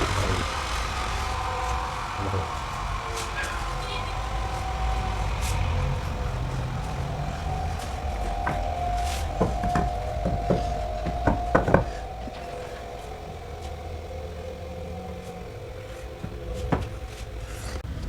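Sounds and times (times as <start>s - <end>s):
sharp knocks: 0.0s - 17.8s
machine humming and rumbling: 0.0s - 18.0s.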